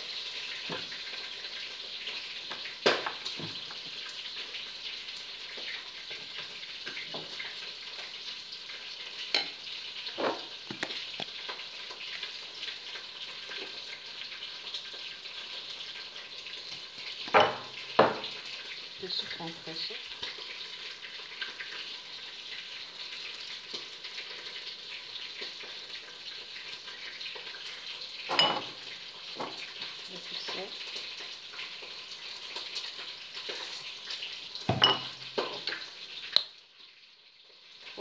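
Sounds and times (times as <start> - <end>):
chicken sizzling while frying: 0.0 - 38.0.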